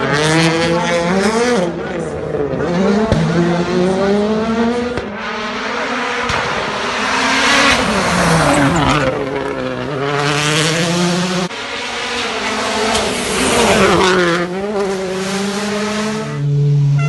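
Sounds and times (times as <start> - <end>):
rally car engine driven hard: 0.0 - 17.0.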